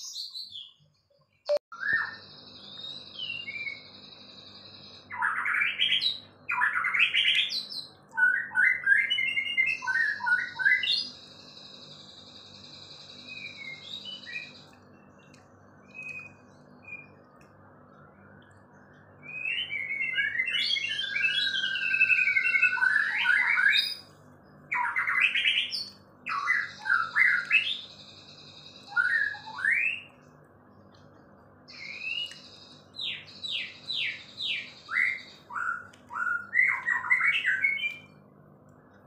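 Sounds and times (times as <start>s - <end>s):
songbird trilling and whistling: 0.0s - 0.8s, 1.5s - 30.3s, 31.6s - 38.2s.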